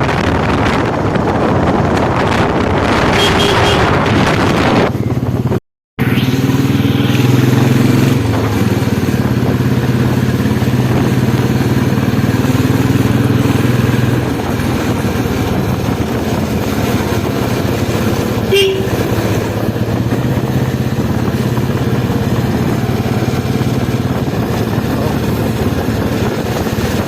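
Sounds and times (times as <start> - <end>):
motorcycle engine running: 0.0 - 27.0
wind noise on microphone: 0.0 - 27.0.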